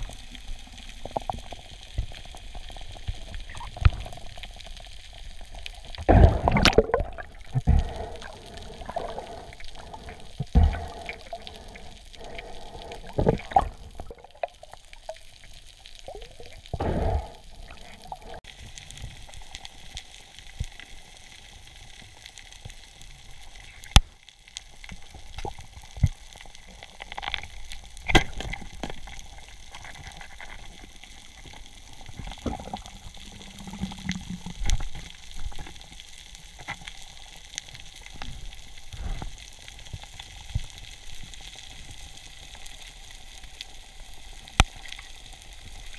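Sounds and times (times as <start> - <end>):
underwater crackling hiss: 0.0 - 45.9.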